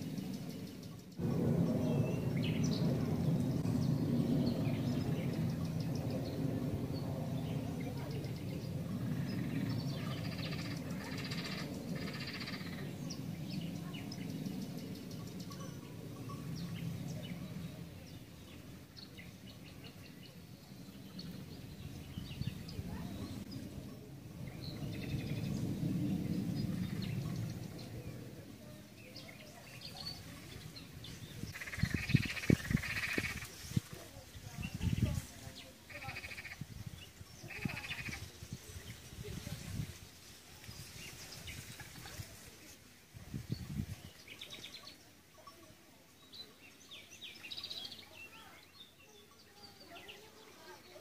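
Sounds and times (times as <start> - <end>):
steady low rumble: 0.0 - 42.6
small birds chirping: 0.0 - 51.0.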